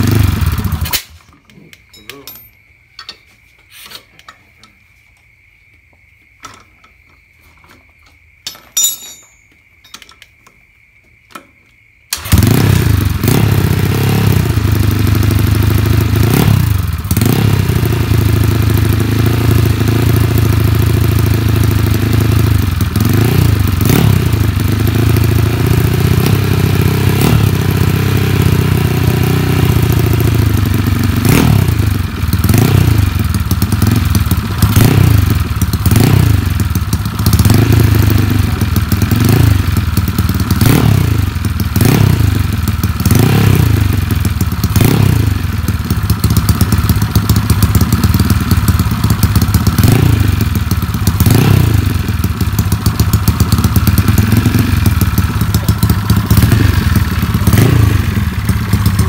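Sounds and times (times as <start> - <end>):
scooter engine running loudly: 0.0 - 0.8, 12.2 - 59.0.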